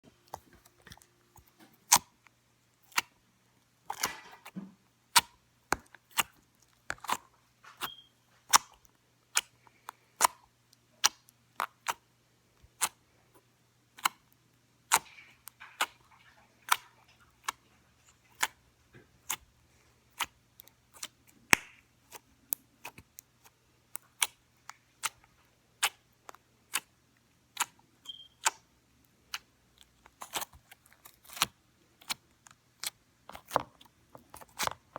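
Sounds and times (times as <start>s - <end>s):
squishy slime sounds: 0.1s - 3.2s, 3.8s - 34.9s.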